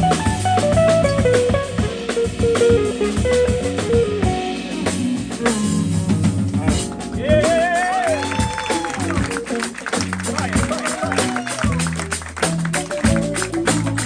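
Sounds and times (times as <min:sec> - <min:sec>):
drum kit: 0:00.0 - 0:14.0
electric guitar melody: 0:00.0 - 0:14.0
keyboards: 0:00.0 - 0:14.0
low bass notes: 0:00.0 - 0:14.0.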